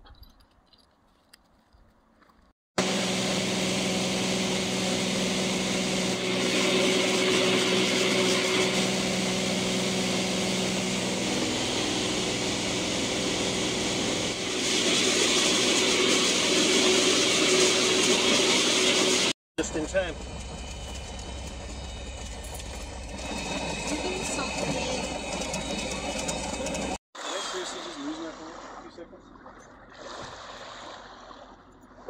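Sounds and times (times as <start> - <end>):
plane engine and propeller drone: 2.8 - 29.8.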